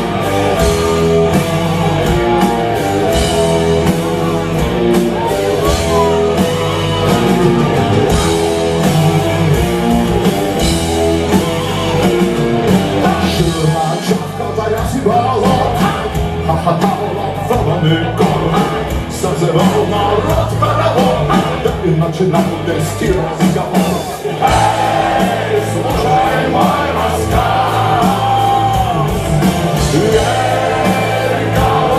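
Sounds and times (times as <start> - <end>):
drum kit beat: 0.0 - 31.9
electric guitars and bass chords: 0.0 - 31.9.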